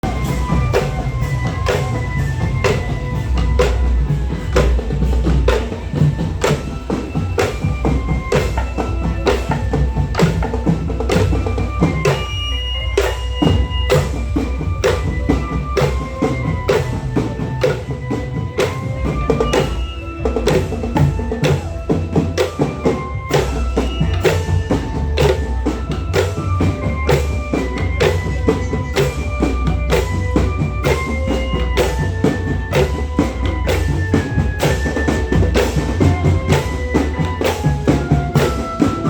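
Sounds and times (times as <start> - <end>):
bass drum and snare beat: 0.0 - 39.0
stepping melody: 0.0 - 39.0.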